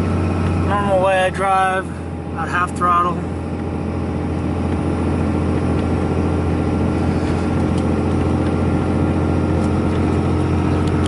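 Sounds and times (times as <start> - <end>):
diesel engine drone: 0.0 - 11.0
thin engine whine: 0.0 - 11.0.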